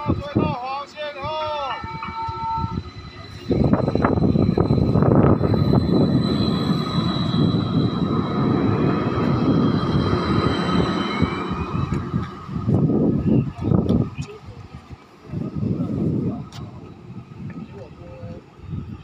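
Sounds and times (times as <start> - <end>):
tram motor whine: 0.0 - 19.0
tram pulling away: 0.0 - 19.0.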